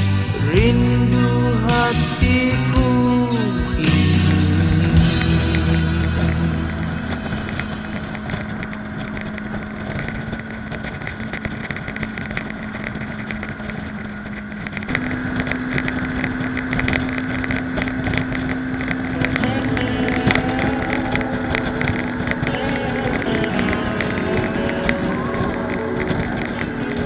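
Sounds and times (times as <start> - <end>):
motorcycle engine running: 0.0 - 27.0
wind on microphone: 1.8 - 27.0.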